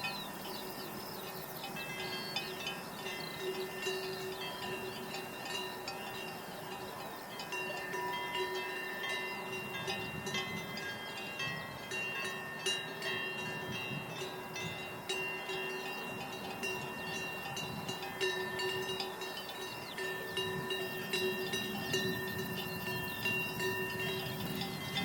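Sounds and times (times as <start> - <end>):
small bells ringing: 0.0 - 25.0.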